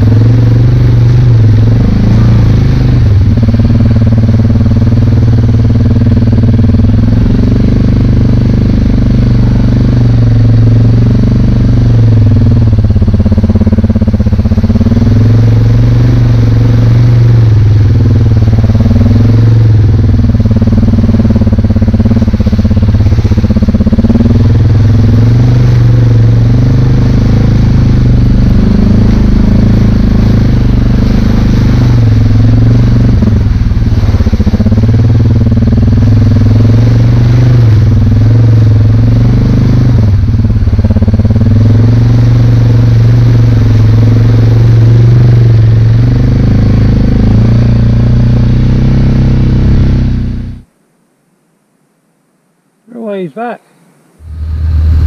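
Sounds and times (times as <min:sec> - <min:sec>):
atv engine running: 0:00.0 - 0:50.7, 0:54.2 - 0:55.0.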